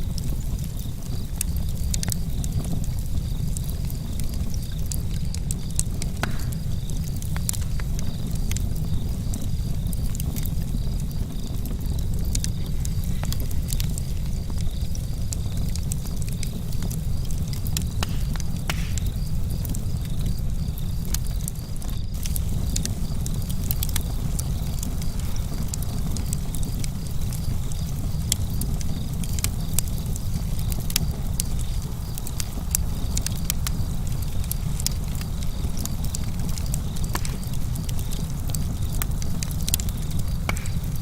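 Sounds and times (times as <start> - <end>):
campfire crackling and popping: 0.0 - 41.0
low fire rumble: 0.0 - 41.0.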